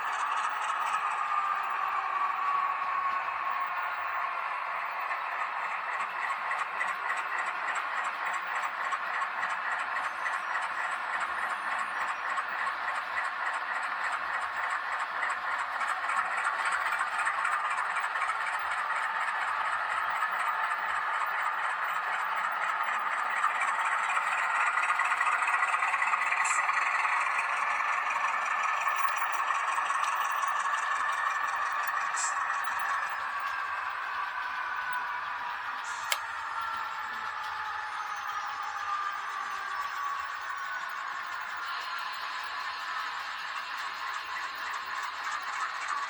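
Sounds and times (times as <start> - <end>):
model train motor whine: 0.0 - 46.0
wheels rattling on track: 0.0 - 46.0.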